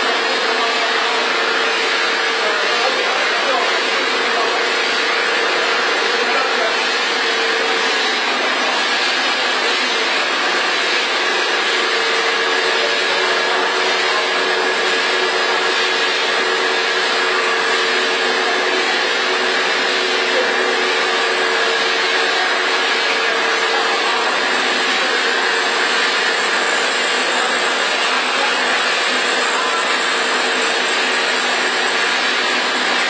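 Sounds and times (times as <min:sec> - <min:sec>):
extruder machine running: 0:00.0 - 0:33.0
high machine whine: 0:00.0 - 0:33.0.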